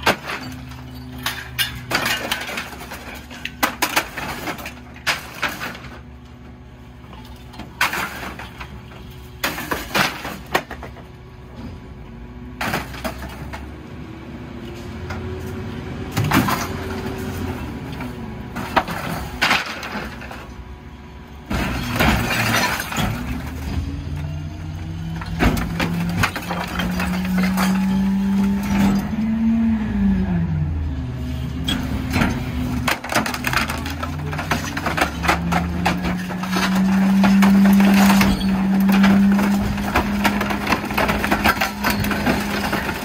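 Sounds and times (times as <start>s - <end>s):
load crunching: 0.0s - 11.9s, 16.1s - 29.6s, 31.5s - 43.0s
junk crashing into hopper: 0.0s - 13.7s, 16.0s - 29.8s, 31.5s - 43.0s.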